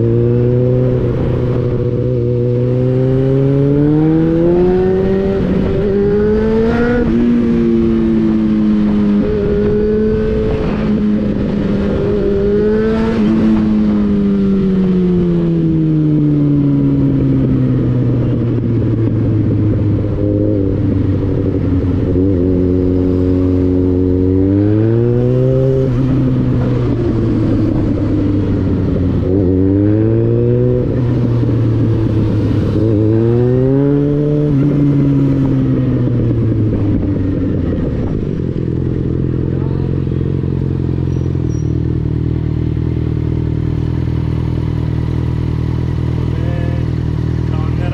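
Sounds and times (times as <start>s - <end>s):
motorcycle engine revving and idling: 0.0s - 47.9s.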